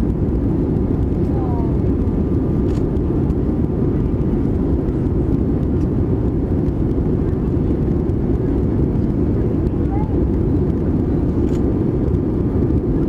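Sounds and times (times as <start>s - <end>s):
airplane cabin engine drone: 0.0s - 13.0s.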